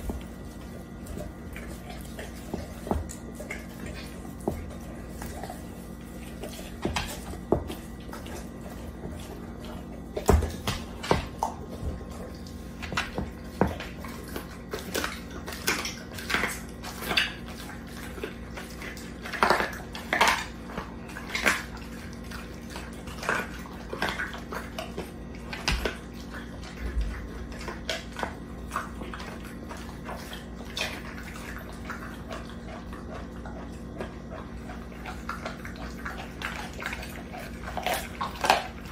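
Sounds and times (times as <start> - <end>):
dog chewing raw chicken: 0.0 - 38.9
faint steady hum: 0.0 - 38.9.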